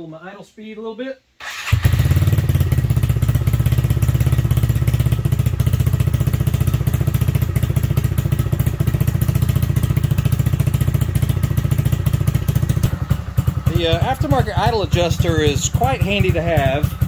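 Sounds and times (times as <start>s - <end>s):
motorcycle engine idling: 1.7s - 17.0s.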